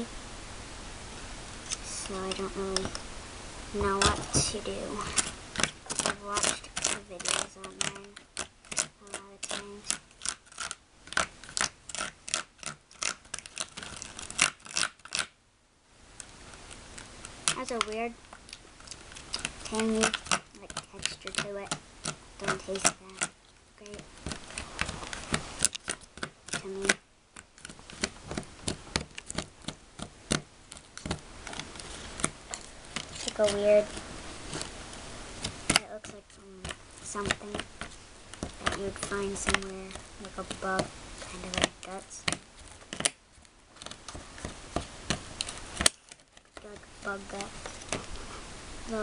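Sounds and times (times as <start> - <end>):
plastic spoon scraping candy paste: 1.7 - 3.0, 3.8 - 15.4, 16.2 - 34.8, 35.4 - 48.2
fingers handling plastic tray: 3.8 - 15.3, 16.6 - 34.7, 35.4 - 48.1.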